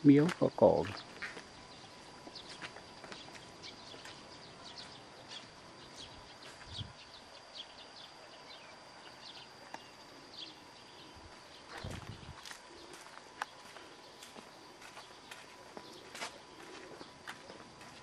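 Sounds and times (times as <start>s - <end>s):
faint steady high tone: 0.0s - 18.0s
small chirps and ticks: 0.0s - 18.0s.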